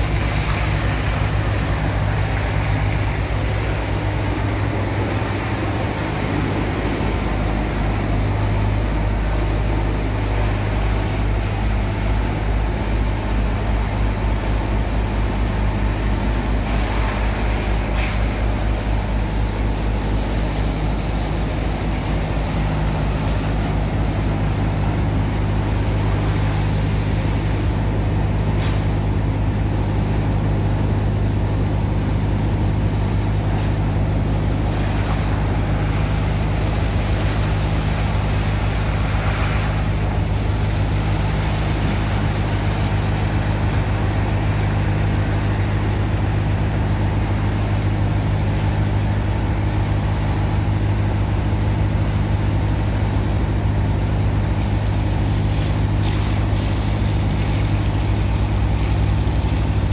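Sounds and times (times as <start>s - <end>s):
pump engine drone: 0.0s - 59.9s
water rushing from hoses: 0.0s - 59.9s.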